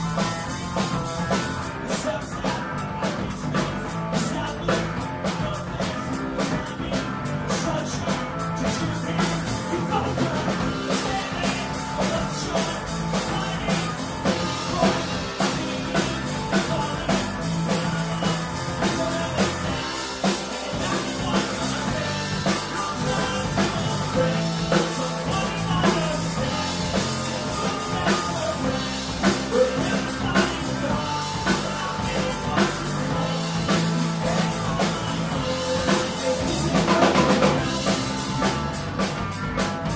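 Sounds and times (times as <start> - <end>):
person singing: 0.0 - 38.8
drum kit beat: 0.0 - 39.9
guitar: 0.0 - 39.9
live rock band playing: 0.0 - 39.9.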